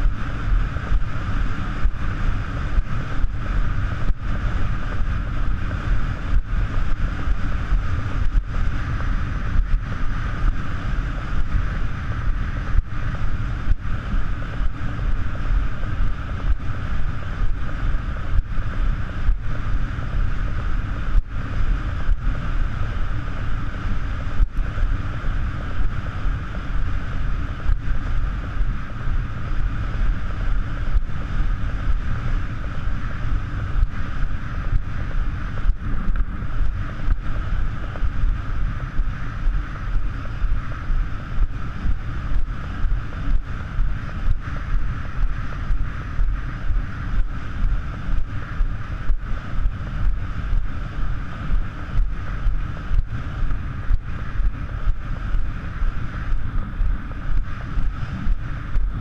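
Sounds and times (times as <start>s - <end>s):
constant hiss: 0.0s - 59.0s
wind buffeting microphone: 0.0s - 59.0s.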